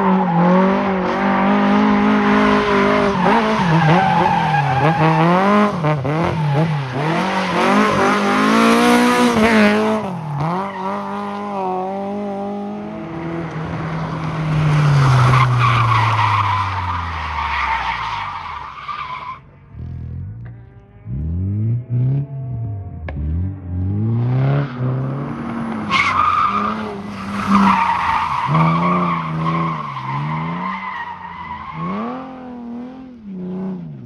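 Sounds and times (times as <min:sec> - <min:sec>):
tyres skidding: 0:00.0 - 0:33.9
rally car engine revving: 0:00.0 - 0:34.0.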